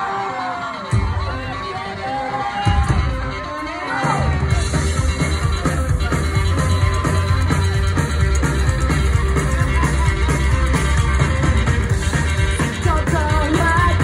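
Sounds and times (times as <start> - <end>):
live band playing loud: 0.0 - 14.0.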